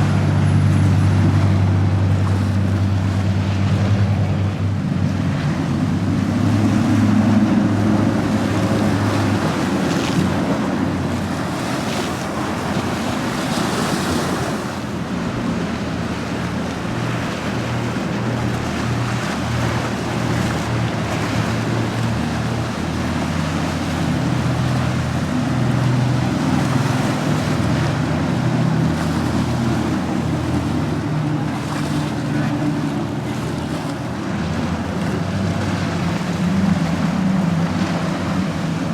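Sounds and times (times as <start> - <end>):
motorboat engines: 0.0 - 38.9
waves and surf: 0.0 - 38.9.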